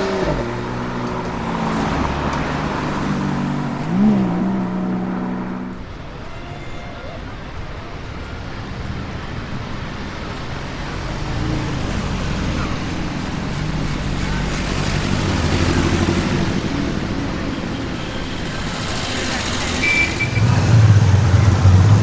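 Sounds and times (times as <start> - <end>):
car driving at low speed: 0.0 - 6.1, 8.0 - 22.0.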